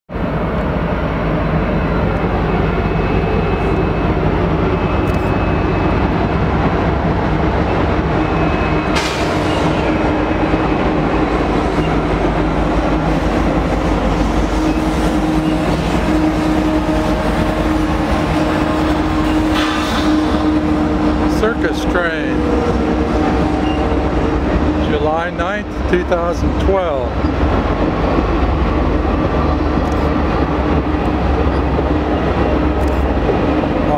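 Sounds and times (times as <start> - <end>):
coaches rolling on rails: 0.1 - 33.9
diesel locomotive engine rumble: 0.1 - 33.9.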